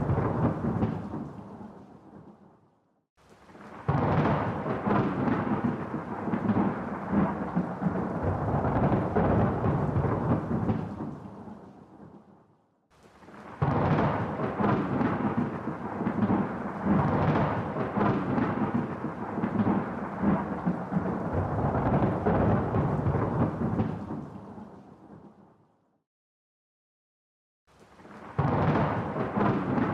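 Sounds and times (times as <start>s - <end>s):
steady rain: 0.0s - 2.2s, 3.2s - 12.1s, 12.9s - 25.2s, 27.7s - 29.9s
thunder rumbling: 0.0s - 2.4s, 3.5s - 12.1s, 13.2s - 25.3s, 28.1s - 29.9s.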